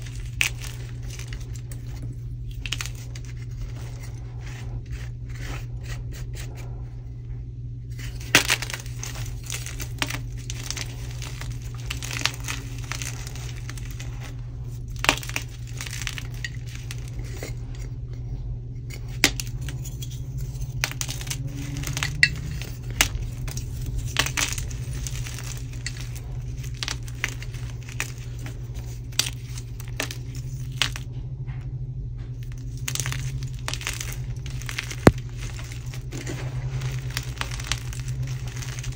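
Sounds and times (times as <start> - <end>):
chalk snapping and crunching: 0.0 - 6.8, 7.9 - 18.0, 18.8 - 31.1, 32.4 - 38.9
steady low hum: 0.0 - 38.9.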